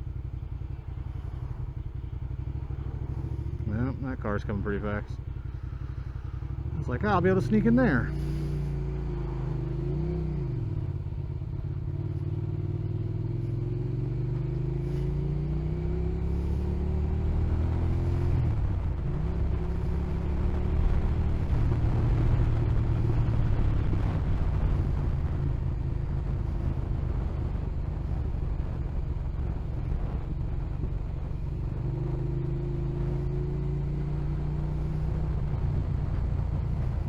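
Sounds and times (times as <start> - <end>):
motorcycle engine accelerating: 0.0 - 37.0
road and wind noise: 0.0 - 37.0.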